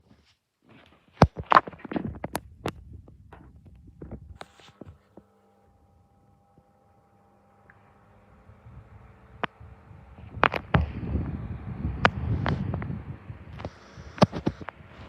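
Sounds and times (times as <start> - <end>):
fan motor hum: 2.4 - 15.0.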